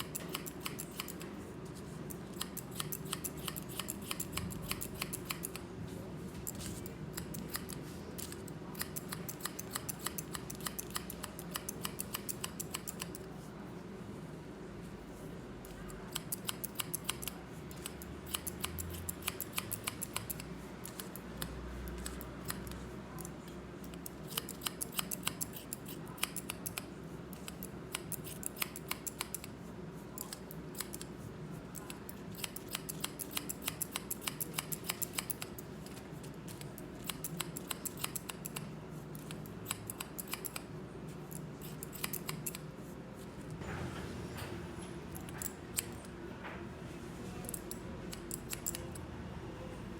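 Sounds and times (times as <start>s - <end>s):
scissors snipping hair: 0.0s - 1.3s, 2.0s - 5.7s, 6.4s - 13.3s, 15.7s - 29.5s, 30.1s - 40.7s, 41.3s - 42.7s, 45.1s - 46.1s, 47.4s - 49.1s.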